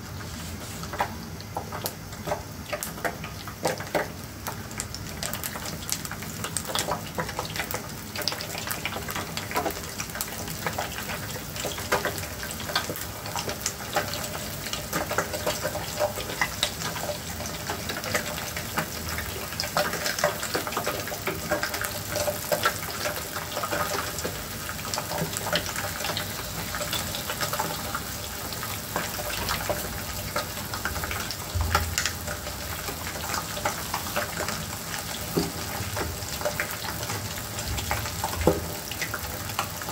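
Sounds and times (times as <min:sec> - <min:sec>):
eggs sizzling in oil: 0:00.0 - 0:39.9.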